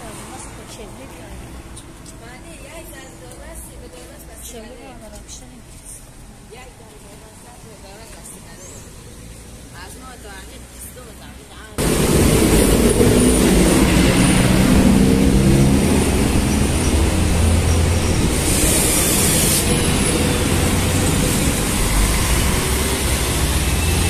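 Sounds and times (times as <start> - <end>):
passing vehicles rumbling: 0.0 - 24.0.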